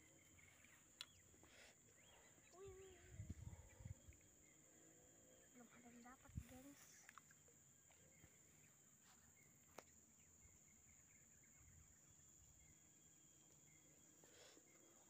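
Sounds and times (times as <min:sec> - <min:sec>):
insect drone: 0:00.0 - 0:15.0.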